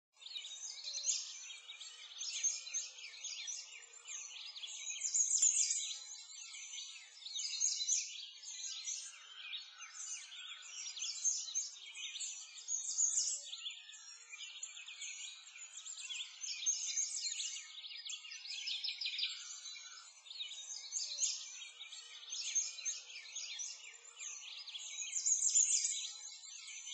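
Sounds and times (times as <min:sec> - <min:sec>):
small birds chirping and singing: 0:00.1 - 0:26.9.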